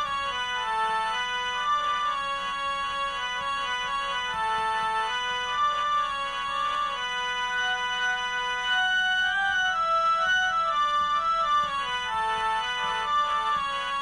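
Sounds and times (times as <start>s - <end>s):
organ-like keyboard melody: 0.0s - 14.0s.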